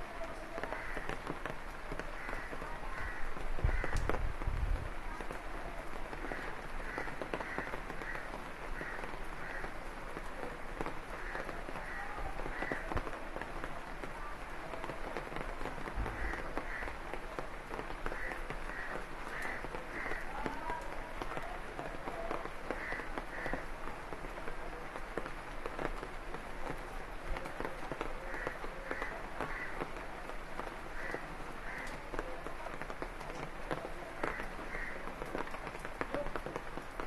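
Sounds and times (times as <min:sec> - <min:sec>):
rain pattering on leaves: 0:00.0 - 0:37.0.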